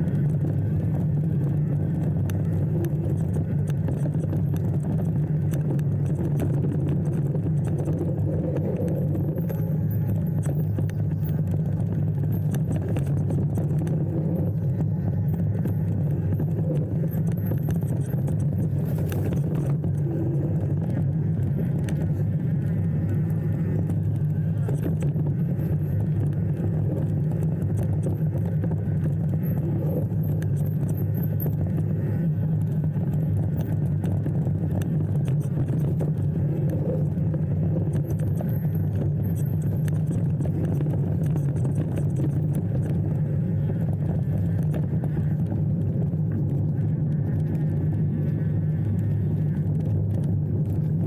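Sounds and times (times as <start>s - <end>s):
motor vehicle rumbling: 0.0s - 51.0s.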